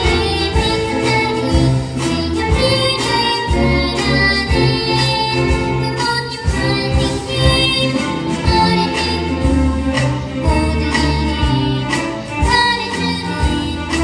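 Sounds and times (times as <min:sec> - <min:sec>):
person singing: 0:00.0 - 0:14.0
upbeat children's song: 0:00.0 - 0:14.0.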